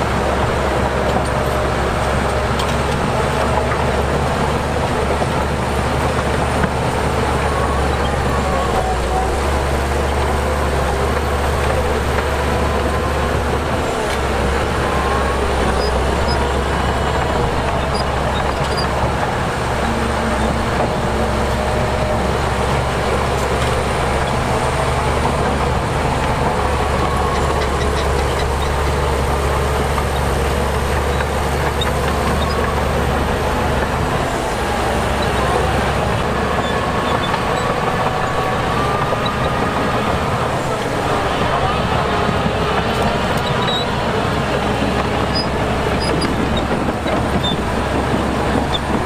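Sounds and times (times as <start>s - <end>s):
heavy diesel machinery rumbling: 0.0s - 49.0s.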